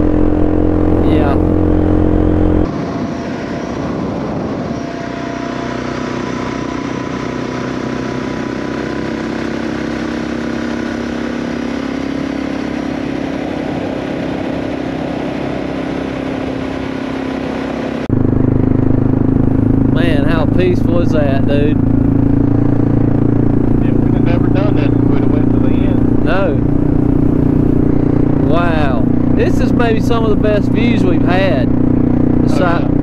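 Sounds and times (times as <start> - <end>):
motorcycle engine running: 0.0 - 3.7, 4.7 - 33.0.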